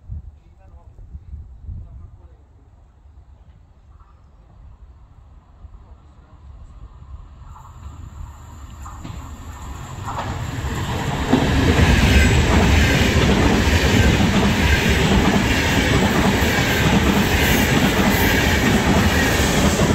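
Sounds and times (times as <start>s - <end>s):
train passing on rails: 2.3s - 19.9s.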